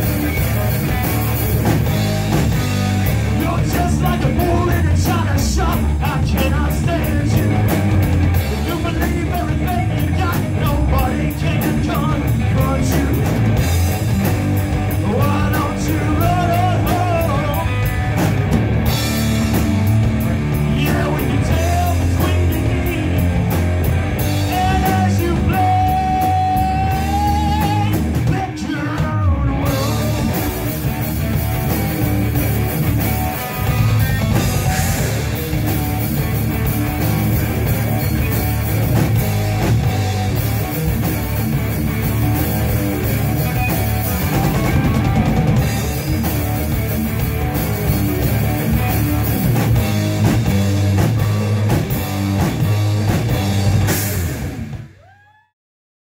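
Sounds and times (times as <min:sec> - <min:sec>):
distorted electric guitar: 0:00.0 - 0:55.2
electric bass: 0:00.0 - 0:55.3
drum kit: 0:00.0 - 0:55.4.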